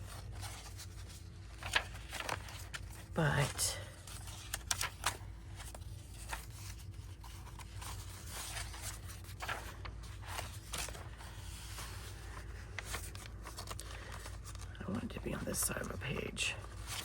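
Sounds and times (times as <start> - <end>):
paper rustling and tapping: 0.1 - 14.7.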